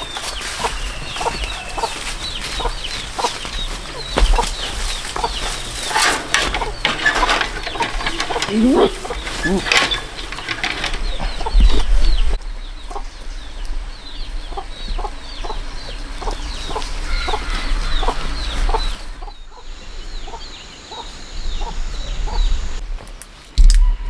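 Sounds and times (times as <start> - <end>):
chickens clucking: 0.0 - 22.8
chicks peeping: 0.0 - 22.8.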